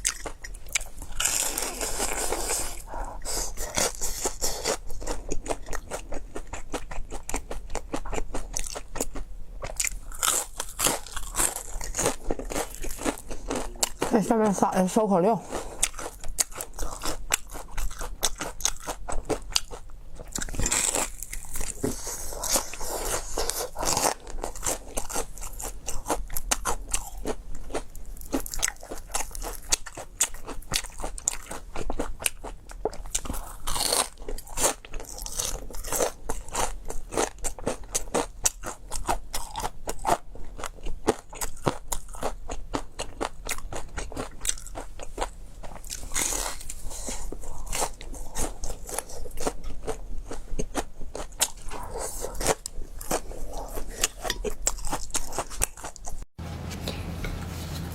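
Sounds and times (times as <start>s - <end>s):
chewing crispy food crunches: 0.0s - 14.3s, 15.4s - 56.3s.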